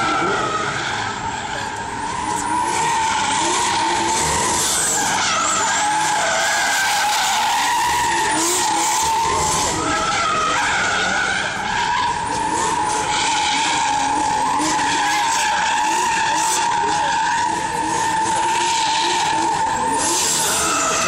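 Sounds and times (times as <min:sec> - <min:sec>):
engines revving: 0:00.0 - 0:21.0
tyres squealing: 0:00.0 - 0:21.0.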